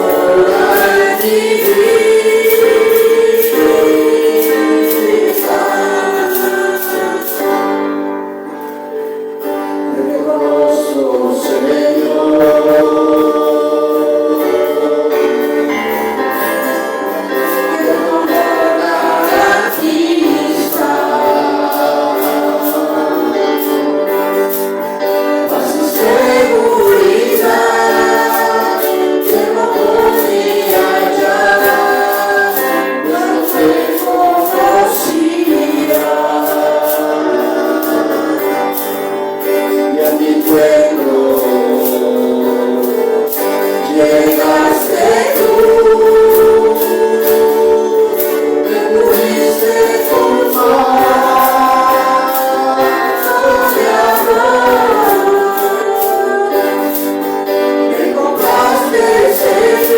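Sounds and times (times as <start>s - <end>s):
percussion beat: 0.0s - 8.0s, 14.6s - 59.9s
instrumental accompaniment: 0.0s - 59.9s
voices singing worship song: 0.0s - 59.9s.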